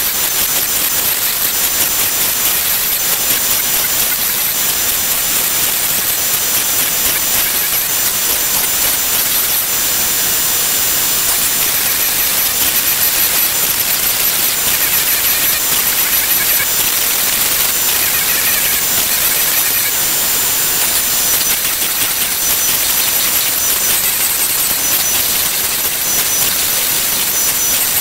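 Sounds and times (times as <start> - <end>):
router bit cutting wood: 0.1 - 28.0
router spindle whining: 0.3 - 28.0.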